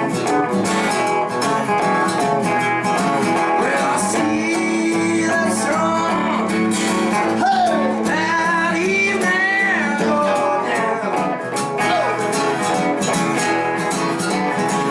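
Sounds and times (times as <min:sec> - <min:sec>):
acoustic guitar strumming: 0:00.0 - 0:14.9
electric guitar playing: 0:00.0 - 0:14.9.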